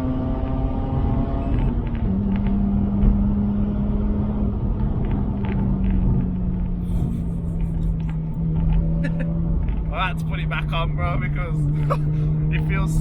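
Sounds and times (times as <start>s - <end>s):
low road rumble: 0.0s - 13.0s
rotary engine running hard: 0.0s - 13.0s.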